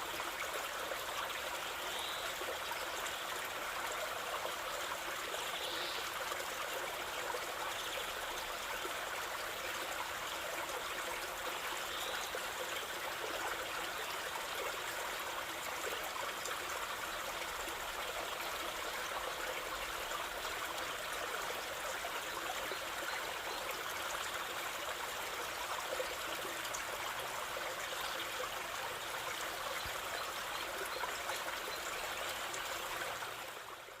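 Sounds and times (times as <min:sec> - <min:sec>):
stream water flowing: 0:00.0 - 0:34.0.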